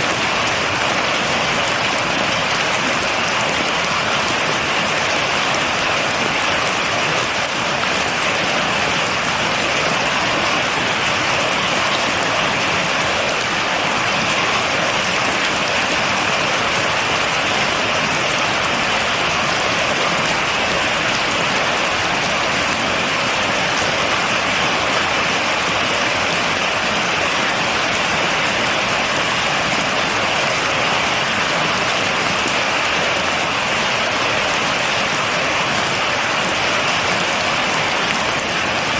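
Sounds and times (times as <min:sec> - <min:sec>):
raindrops pattering on a surface: 0:00.0 - 0:38.9
steady rain falling: 0:00.0 - 0:38.9.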